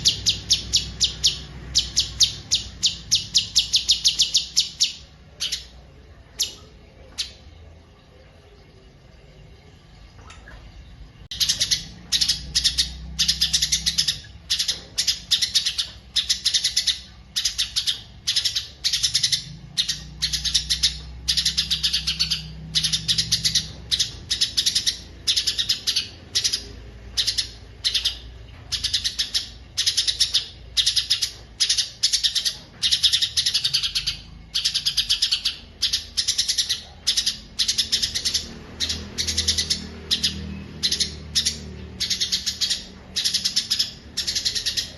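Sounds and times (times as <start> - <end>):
songbird chattering song: 0.0 - 7.4, 11.3 - 44.9.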